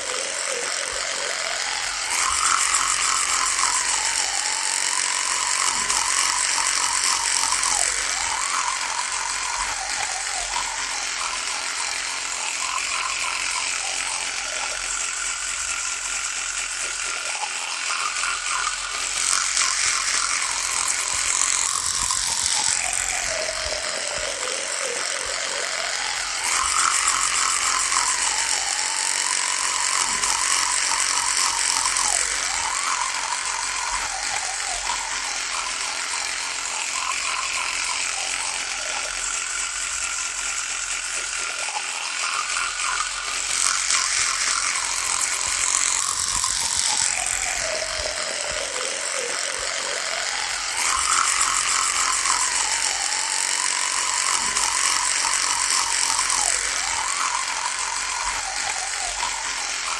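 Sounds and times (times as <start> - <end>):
electric toothbrush buzzing: 0.0 - 59.9.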